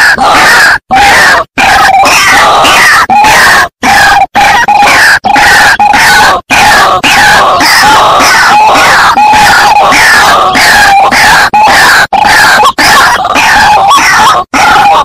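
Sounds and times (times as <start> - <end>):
waterhen raucous calls: 0.0 - 15.0.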